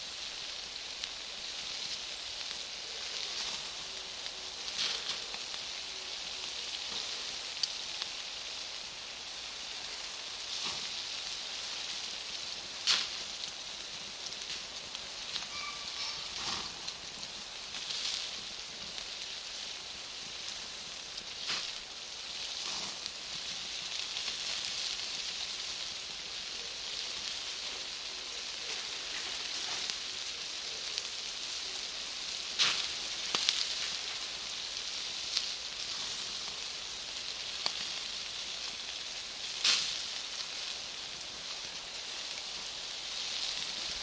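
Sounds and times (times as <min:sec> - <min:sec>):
fire burning with steady hiss: 0:00.0 - 0:44.0
charcoal cracking pops: 0:00.8 - 0:08.2, 0:09.7 - 0:44.0.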